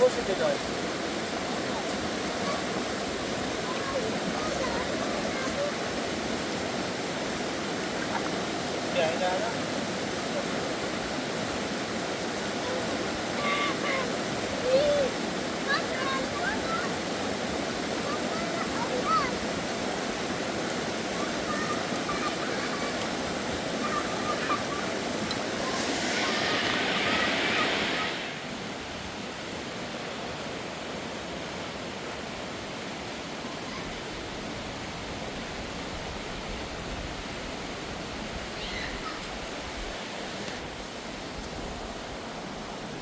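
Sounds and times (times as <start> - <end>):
running water: 0.0 - 43.0.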